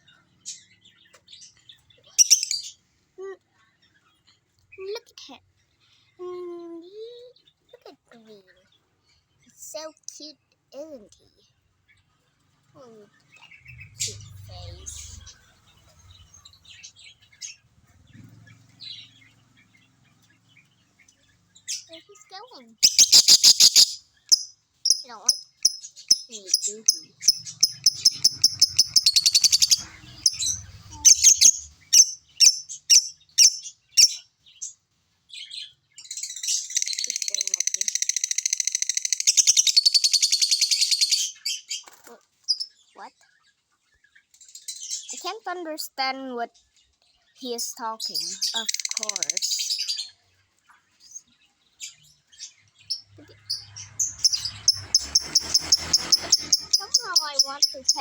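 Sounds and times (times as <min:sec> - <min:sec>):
pet bird chirping: 0:00.0 - 0:08.9, 0:09.5 - 0:12.2, 0:12.8 - 0:58.0.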